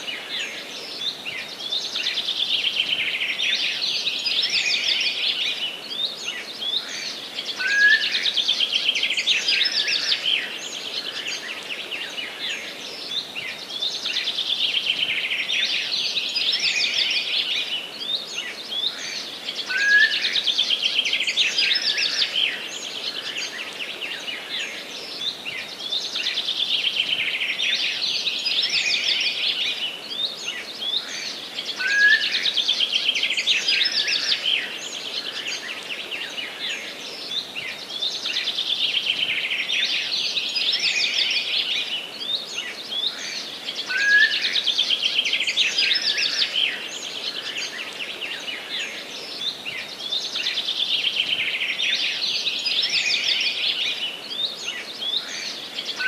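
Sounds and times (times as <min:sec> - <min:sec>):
background hiss: 0:00.0 - 0:56.0
songbirds chirping and trilling: 0:00.0 - 0:56.0.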